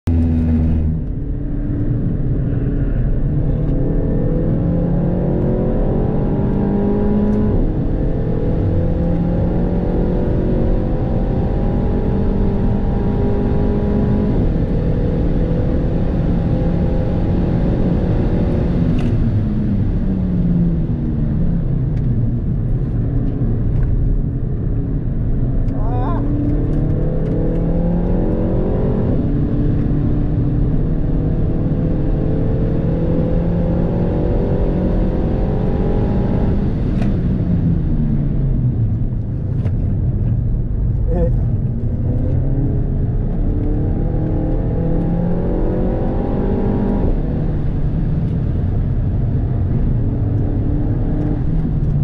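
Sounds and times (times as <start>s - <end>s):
car engine under hard acceleration: 0.0s - 52.0s.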